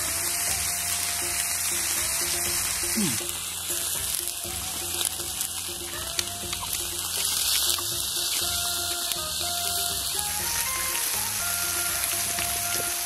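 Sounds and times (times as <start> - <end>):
background music: 0.0 - 13.0
food sizzling on iron plate: 0.0 - 13.0.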